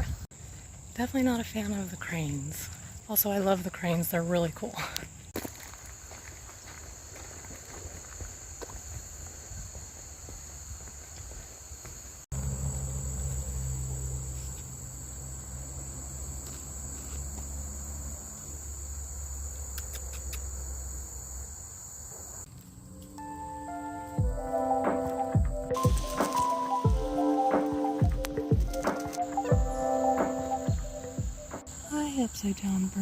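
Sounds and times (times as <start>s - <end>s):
crickets trilling: 0.4s - 24.0s, 24.6s - 33.0s.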